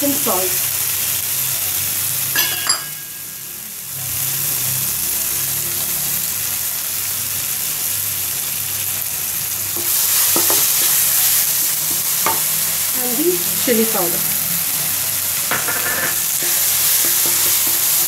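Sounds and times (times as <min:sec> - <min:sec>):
masala sizzling in hot oil: 0:00.0 - 0:18.0.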